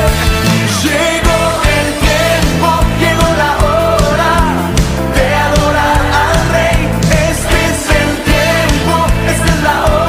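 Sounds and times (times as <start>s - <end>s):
electric guitar: 0.0s - 10.0s
person singing: 0.0s - 10.0s
steady drum beat: 0.0s - 10.0s.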